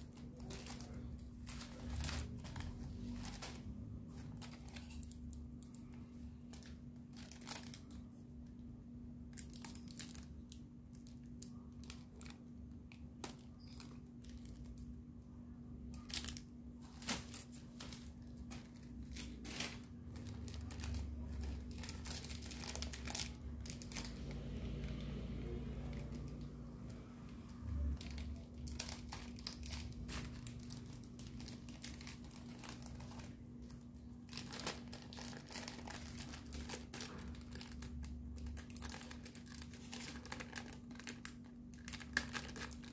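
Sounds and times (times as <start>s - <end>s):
paper wings crinkling: 0.0s - 8.4s, 15.9s - 42.9s
low steady hum: 0.0s - 42.9s.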